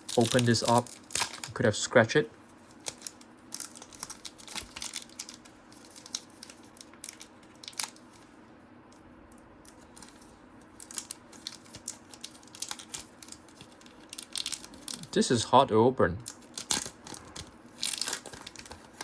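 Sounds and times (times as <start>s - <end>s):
plastic wrapper crinkling: 0.0s - 1.8s, 2.6s - 8.3s, 9.6s - 15.2s, 16.2s - 19.0s.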